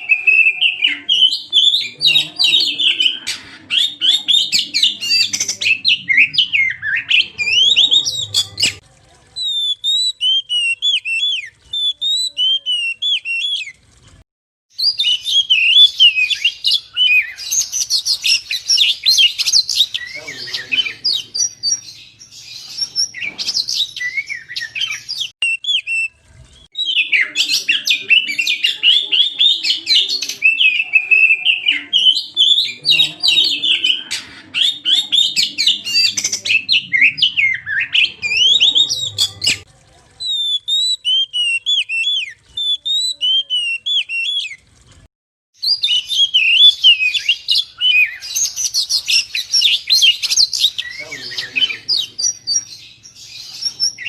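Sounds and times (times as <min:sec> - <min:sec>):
bird singing whistles and chatter: 0:00.0 - 0:08.8, 0:09.4 - 0:13.8, 0:14.8 - 0:44.6, 0:45.6 - 0:54.0.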